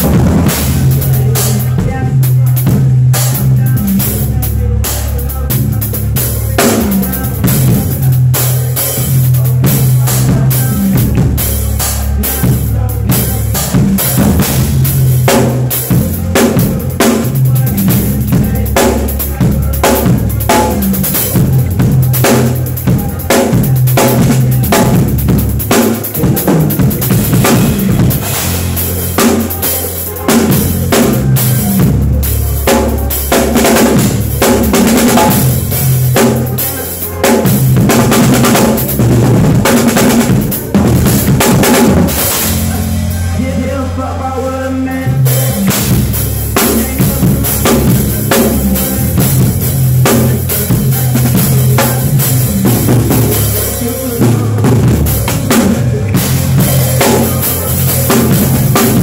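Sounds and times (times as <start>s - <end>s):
bass line: 0.0s - 59.0s
drum kit groove: 0.0s - 59.0s.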